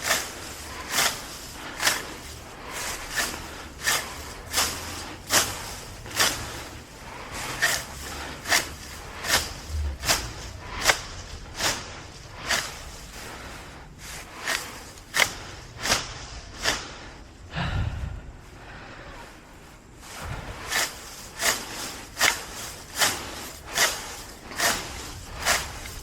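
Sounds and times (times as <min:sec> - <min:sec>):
grass tearing: 0:00.0 - 0:17.1, 0:20.0 - 0:26.0.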